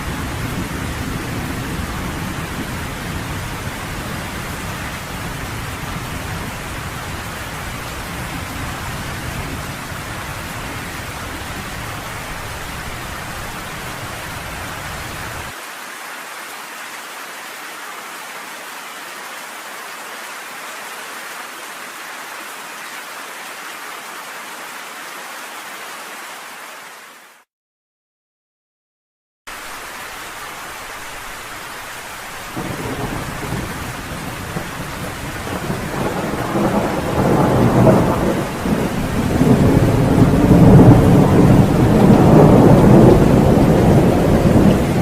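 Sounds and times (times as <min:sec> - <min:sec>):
rain falling: 0:00.0 - 0:27.5, 0:29.5 - 0:45.0.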